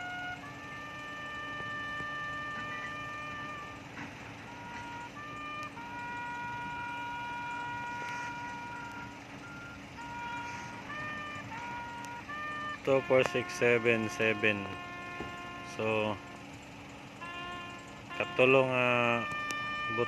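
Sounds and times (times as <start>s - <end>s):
trumpet bugle call: 0.0s - 20.0s.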